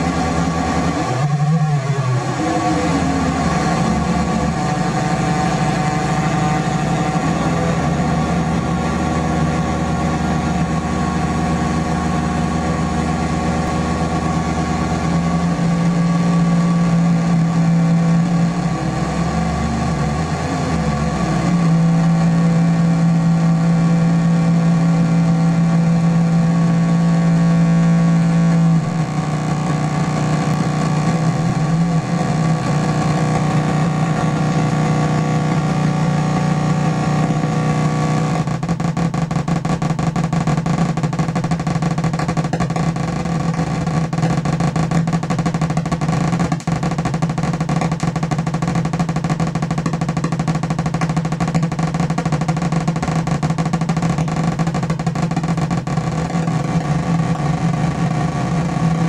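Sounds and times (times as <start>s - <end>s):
synth buzzing drone: 0.0s - 59.0s.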